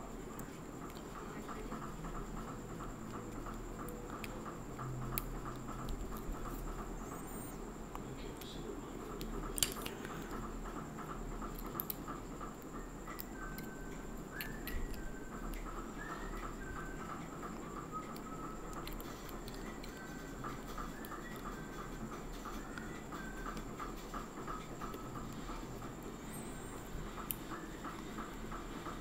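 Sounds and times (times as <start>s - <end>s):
faint background hum: 0.0s - 29.0s.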